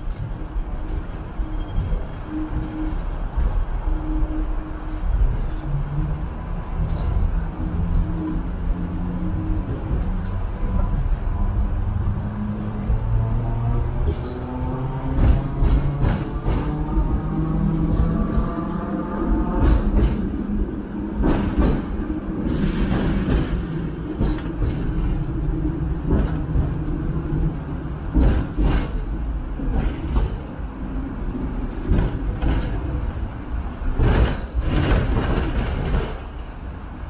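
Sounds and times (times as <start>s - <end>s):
wheels clacking on rails: 0.0s - 36.8s
tram low rumble: 0.0s - 37.0s.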